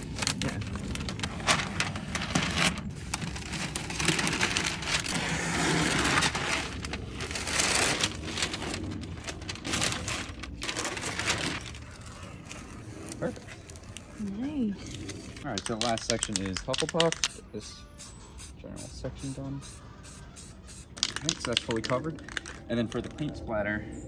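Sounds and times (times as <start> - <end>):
paper crinkling and rustling: 0.0 - 17.2, 21.0 - 23.3.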